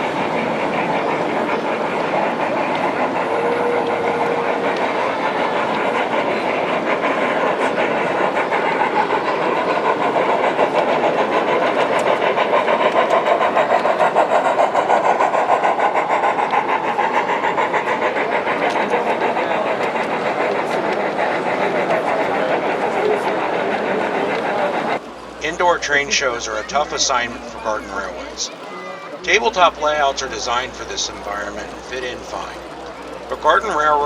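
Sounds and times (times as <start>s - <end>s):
model train wheels clicking: 0.0s - 34.0s.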